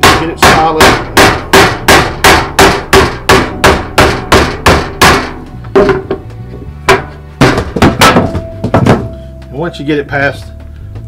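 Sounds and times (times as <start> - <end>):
rubber mallet knocking: 0.0 - 9.2.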